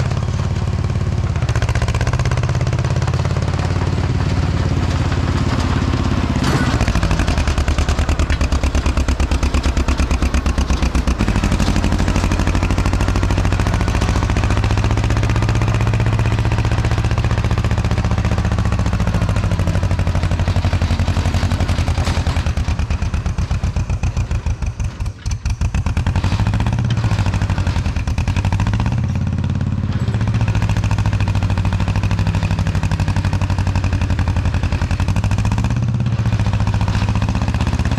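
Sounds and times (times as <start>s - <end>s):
heavy machinery engine running: 0.0s - 37.9s
machinery clatter: 0.0s - 37.9s.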